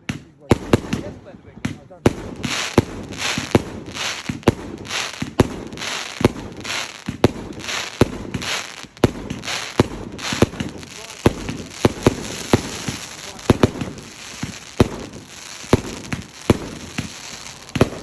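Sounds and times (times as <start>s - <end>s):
fireworks banging: 0.0s - 18.0s
fireworks crackling hiss: 0.0s - 18.0s.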